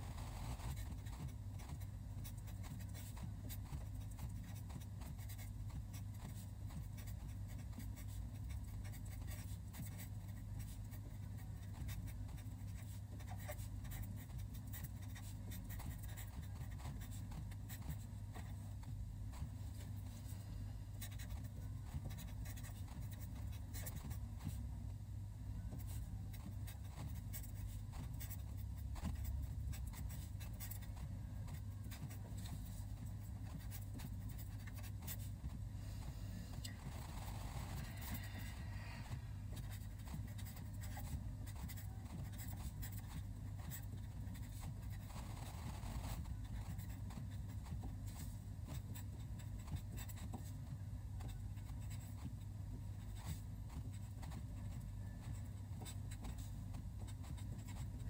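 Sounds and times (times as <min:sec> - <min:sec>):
pen scratching on paper: 0:00.0 - 0:20.2, 0:21.0 - 0:24.6, 0:25.7 - 0:35.6, 0:36.6 - 0:50.6, 0:51.2 - 0:58.0
low steady hum: 0:00.0 - 0:58.0.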